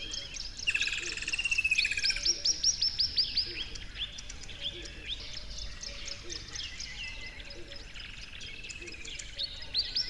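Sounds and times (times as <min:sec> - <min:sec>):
birds chirping faintly: 0:00.0 - 0:10.0
songbird singing: 0:00.0 - 0:10.0.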